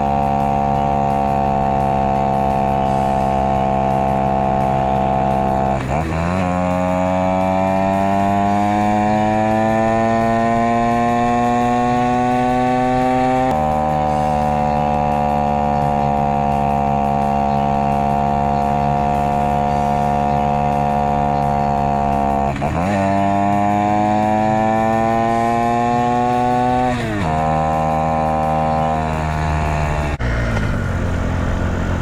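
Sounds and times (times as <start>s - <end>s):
small motorcycle engine revving: 0.0s - 32.0s.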